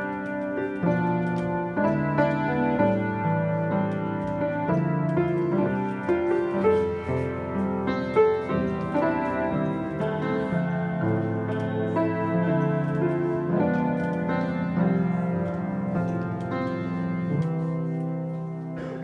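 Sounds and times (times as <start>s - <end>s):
slow piano-like chords: 0.0s - 19.0s.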